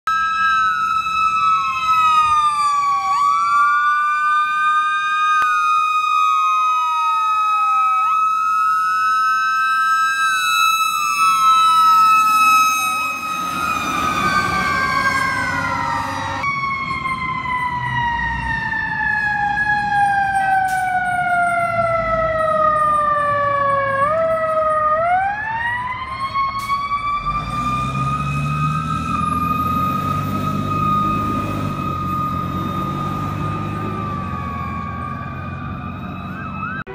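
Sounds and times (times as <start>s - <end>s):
fire truck sirens: 0.0s - 36.9s
truck engine rumbling: 0.1s - 36.9s.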